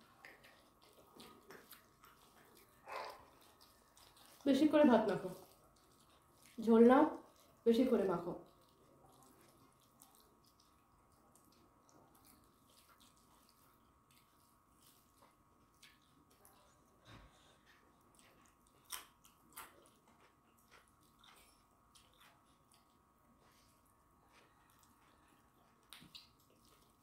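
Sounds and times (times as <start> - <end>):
chewing and wet smacking: 0.0 - 27.0.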